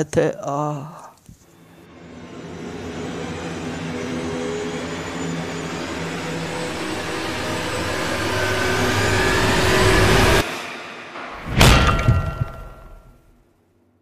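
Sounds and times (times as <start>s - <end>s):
rushing roaring build-up effect: 1.6s - 13.2s.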